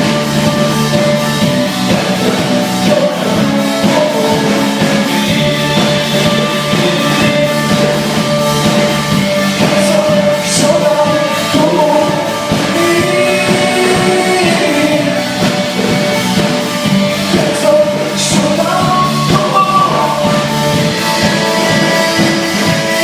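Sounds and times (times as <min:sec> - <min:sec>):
live rock band: 0:00.0 - 0:23.0
person singing: 0:00.0 - 0:23.0.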